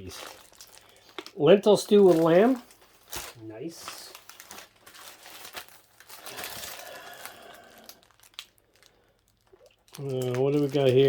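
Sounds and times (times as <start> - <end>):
food packaging crinkling: 0.0 - 11.0.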